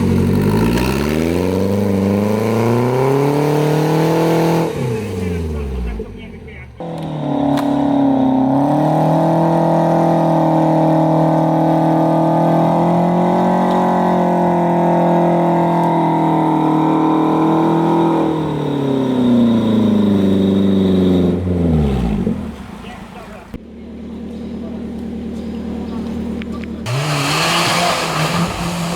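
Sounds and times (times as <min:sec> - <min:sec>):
off-road vehicle engine revving: 0:00.0 - 0:28.9.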